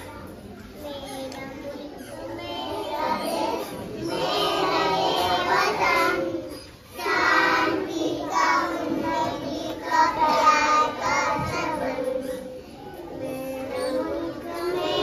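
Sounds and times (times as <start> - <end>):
children singing: 1.0 - 15.0.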